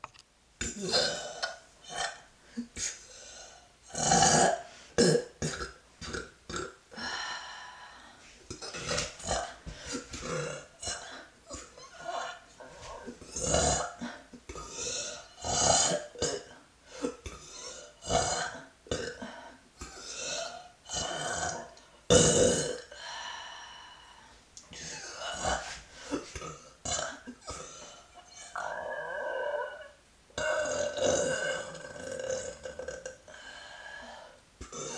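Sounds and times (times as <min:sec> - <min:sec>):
woman burping: 0:00.6 - 0:03.0, 0:03.9 - 0:06.8, 0:08.5 - 0:22.9, 0:24.7 - 0:33.4.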